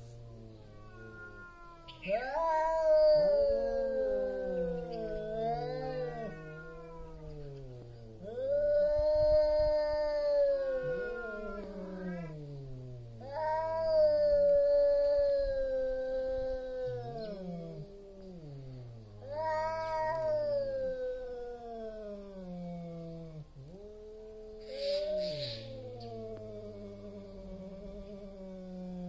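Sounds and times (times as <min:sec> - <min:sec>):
cats caterwauling: 0:00.0 - 0:29.0.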